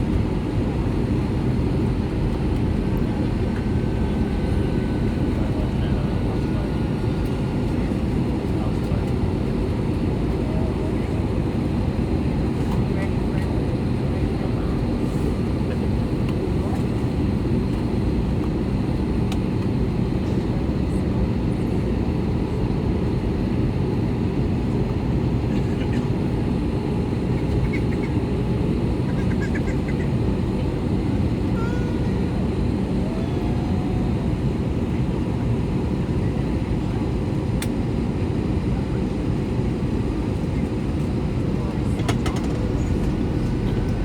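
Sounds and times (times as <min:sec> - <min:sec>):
aircraft cabin engine roar: 0:00.0 - 0:44.0.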